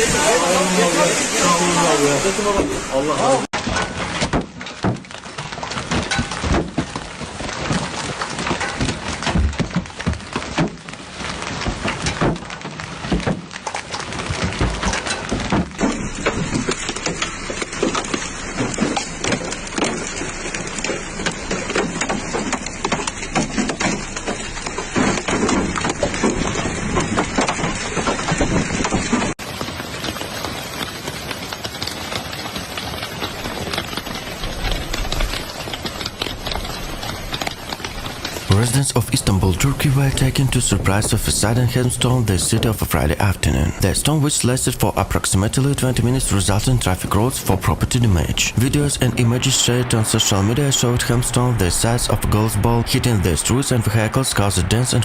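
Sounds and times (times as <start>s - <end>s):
hail pelting hard surfaces: 0.0s - 55.0s.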